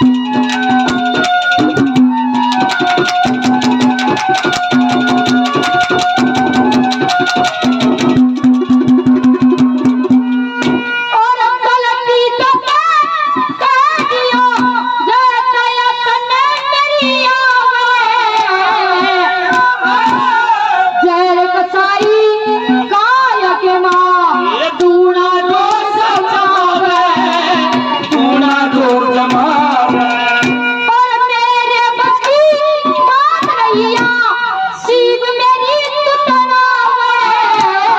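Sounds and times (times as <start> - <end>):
rapid hand-drum strokes: 0.0 - 11.2, 12.4 - 37.9
harmonium drone: 0.0 - 37.9.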